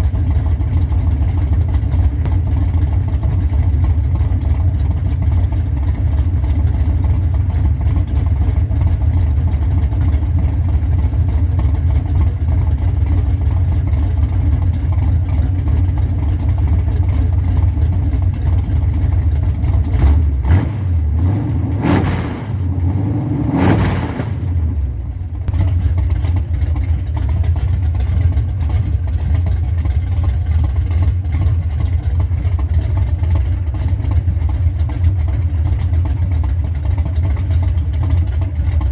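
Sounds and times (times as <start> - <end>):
loud lumpy engine idle and revving: 0.0 - 38.9.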